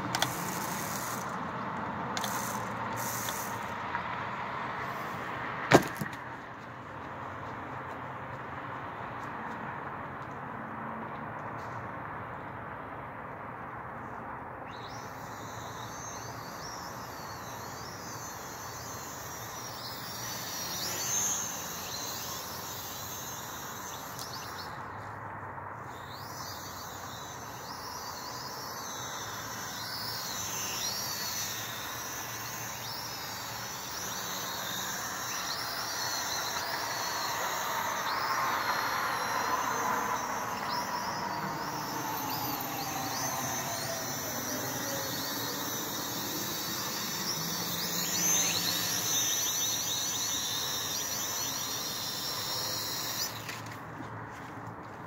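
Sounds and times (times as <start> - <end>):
high whine of electric motors: 0.0 - 55.0.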